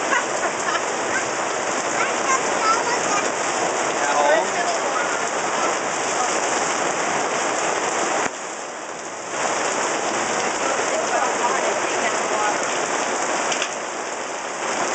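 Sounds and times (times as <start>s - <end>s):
heavy rain on fabric roof: 0.0s - 14.9s.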